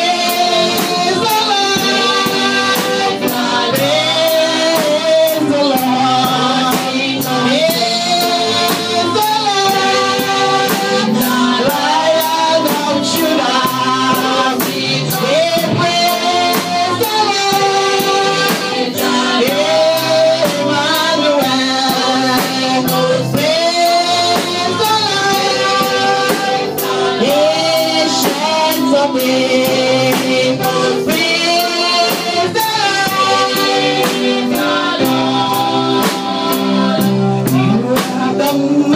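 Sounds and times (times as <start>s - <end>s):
band with steady drum beat: 0.0s - 38.9s
voices singing gospel melody: 0.0s - 38.9s.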